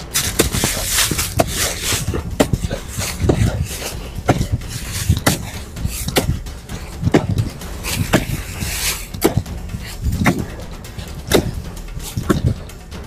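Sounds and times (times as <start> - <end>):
hoe chopping into dry earth: 0.0 - 12.7.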